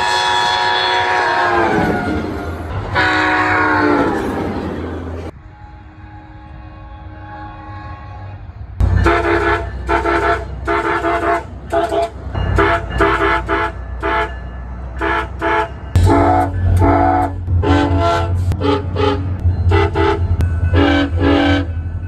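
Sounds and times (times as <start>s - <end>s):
train air horn blasts: 0.0s - 14.4s, 15.0s - 21.8s
train rumble: 0.0s - 22.0s.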